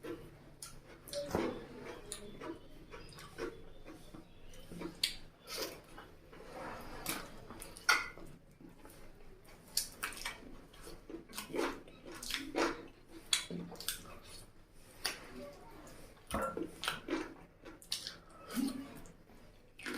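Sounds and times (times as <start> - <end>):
wet chewing and lip-smacking: 0.0 - 6.1, 7.1 - 15.3, 15.9 - 19.9.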